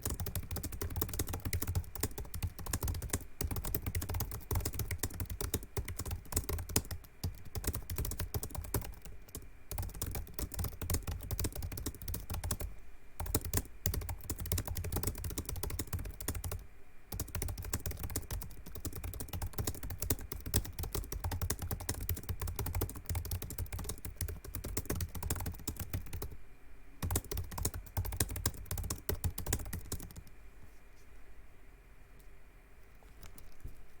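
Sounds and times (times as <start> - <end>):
fast typing on keyboard: 0.0 - 26.4, 27.0 - 30.3, 33.2 - 33.7.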